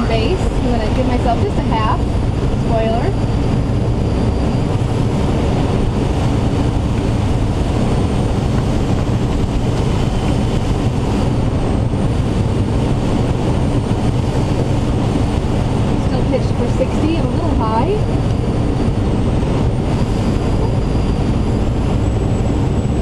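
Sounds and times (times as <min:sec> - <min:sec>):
air rushing around cockpit: 0:00.0 - 0:23.0
wind buffeting microphone: 0:00.0 - 0:23.0.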